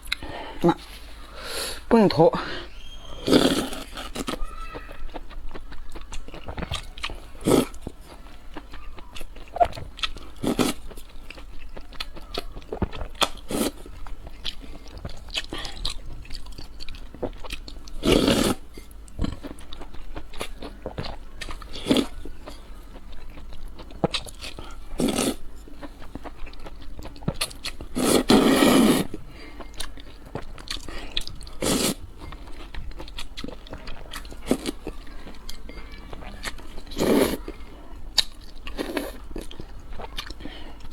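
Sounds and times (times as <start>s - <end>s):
person chewing crunchy food: 0.0s - 1.2s, 2.1s - 40.9s.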